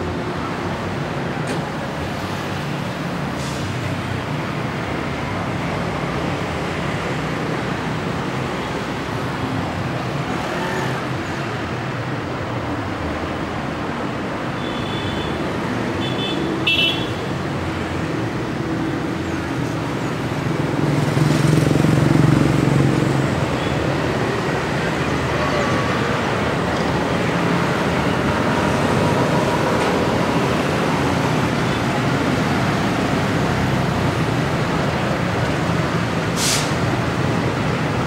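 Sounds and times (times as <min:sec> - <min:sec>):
traffic-like rumble: 0:00.0 - 0:38.0.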